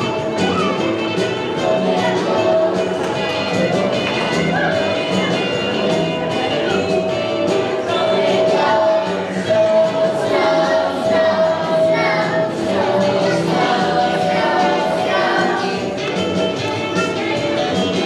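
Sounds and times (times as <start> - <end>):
children's choir singing: 0.0 - 18.0
instrumental accompaniment: 0.0 - 18.0.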